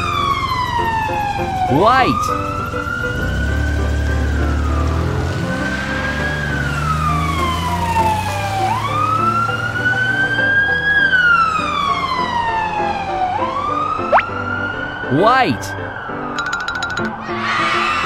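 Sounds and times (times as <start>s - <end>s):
ambulance siren wailing: 0.0s - 16.4s, 17.1s - 18.0s.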